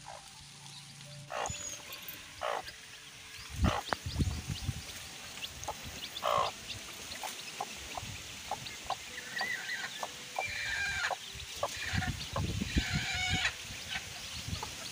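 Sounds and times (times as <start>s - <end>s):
hen clucking: 0.0s - 0.3s, 1.2s - 14.9s
chicks cheeping: 0.0s - 14.9s.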